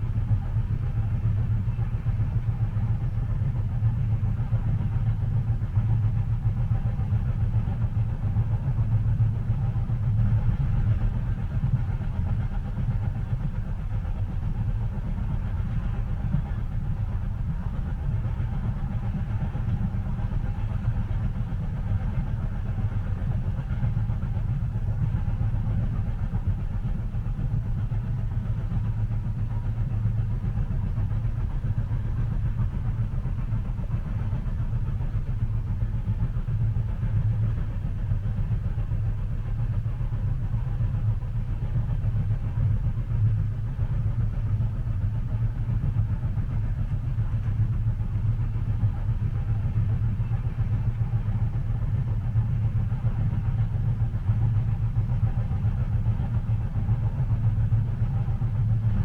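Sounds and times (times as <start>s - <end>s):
train carriage rumbling on rails: 0.0s - 59.0s.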